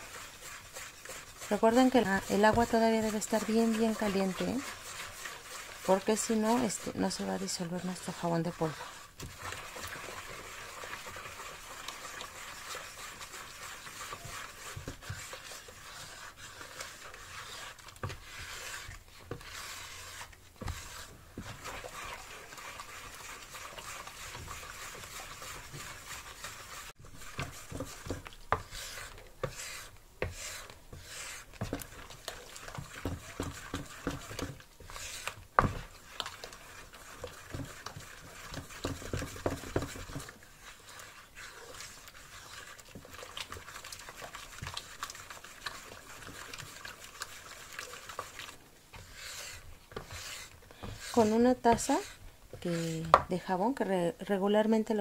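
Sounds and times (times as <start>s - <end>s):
spatula swishing in water: 0.0s - 54.0s.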